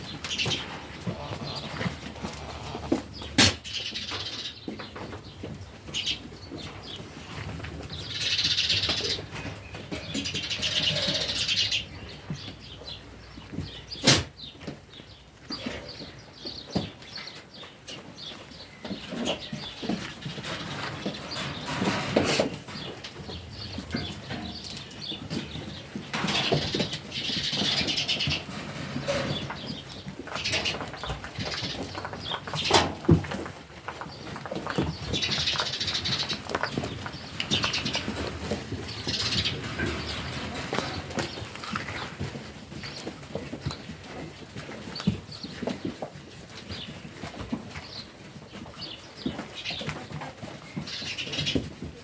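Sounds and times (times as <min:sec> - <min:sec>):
sheep rustling and shuffling: 0:00.0 - 0:52.0.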